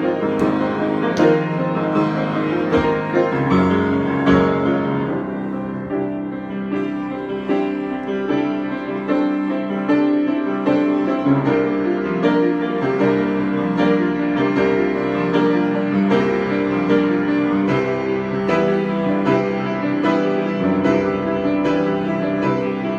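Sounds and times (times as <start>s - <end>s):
slow gentle piano: 0.0s - 22.9s.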